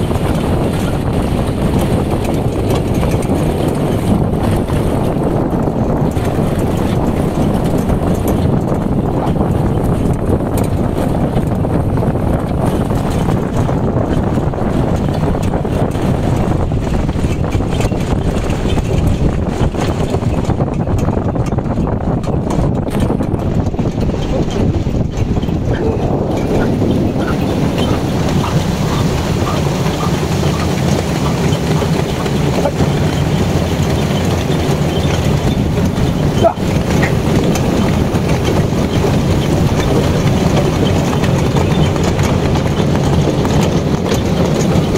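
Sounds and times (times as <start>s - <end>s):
cart rumbling rattle: 0.0s - 44.9s
horse hoofbeats: 0.0s - 44.9s
wind buffeting microphone: 0.0s - 44.9s.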